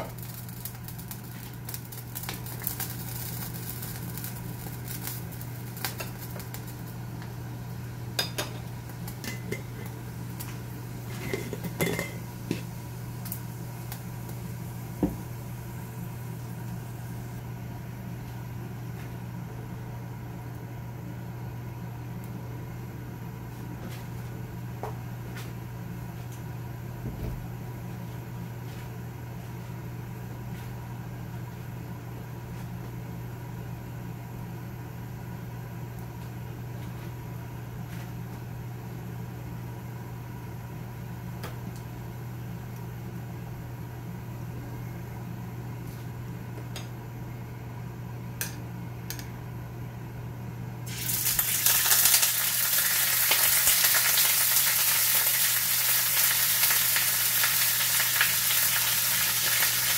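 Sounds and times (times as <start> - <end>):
kitchen appliance hum: 0.0 - 59.9.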